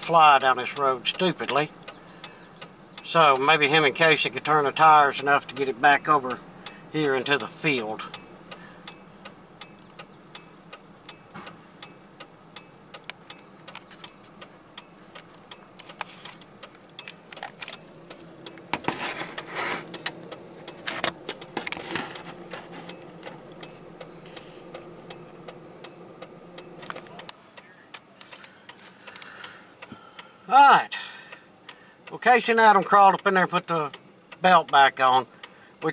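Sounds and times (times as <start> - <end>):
low steady hum: 0.0 - 34.4.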